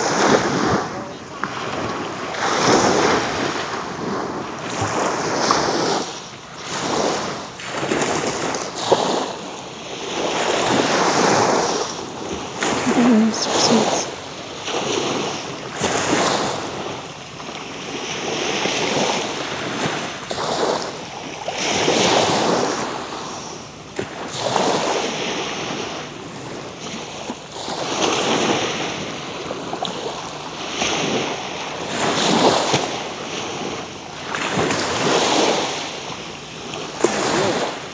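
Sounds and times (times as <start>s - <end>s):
small waves breaking on shore: 0.0s - 37.9s.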